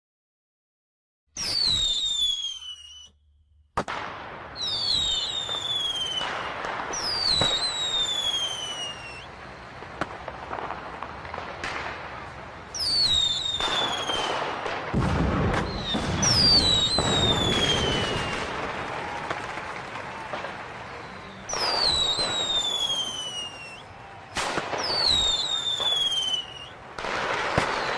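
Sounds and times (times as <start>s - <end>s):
firework bangs: 1.4s - 3.1s, 3.7s - 27.9s
firework crackling bursts: 1.4s - 3.1s, 3.8s - 27.9s
whistling rockets: 1.4s - 3.2s, 3.8s - 27.9s.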